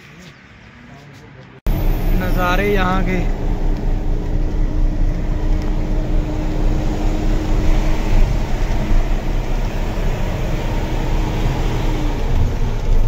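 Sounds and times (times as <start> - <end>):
truck engine and road hum: 0.0 - 13.0
steady low tone: 1.7 - 13.0.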